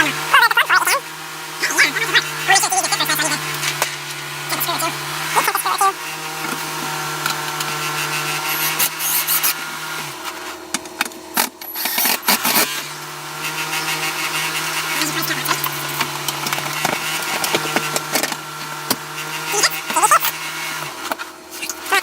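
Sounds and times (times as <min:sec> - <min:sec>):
reciprocating saw cutting wood: 0:00.0 - 0:22.0.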